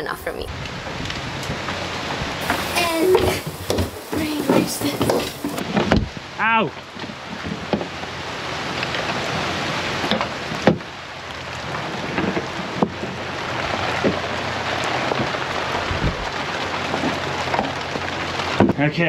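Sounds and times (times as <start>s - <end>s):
rain pouring on wooden deck: 0.5s - 19.0s.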